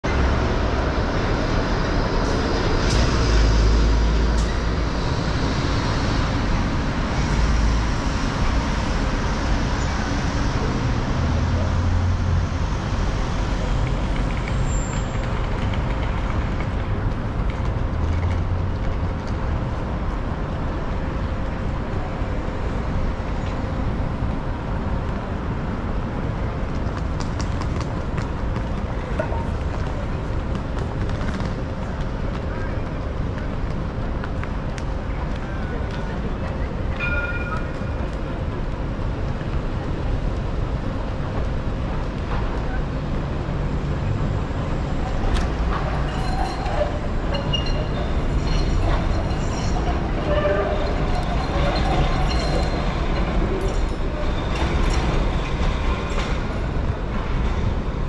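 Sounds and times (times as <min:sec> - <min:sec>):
heavy vehicles rumbling: 0:00.0 - 0:58.0.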